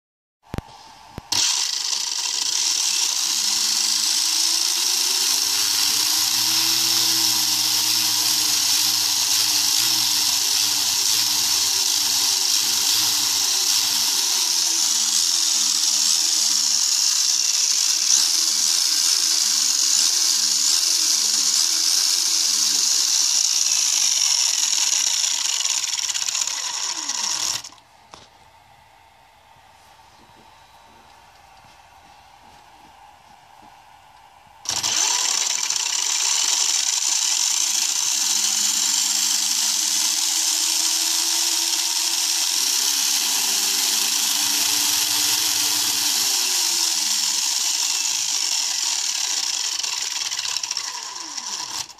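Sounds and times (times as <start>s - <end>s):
electric motor whining: 0.5s - 28.3s, 34.6s - 51.9s.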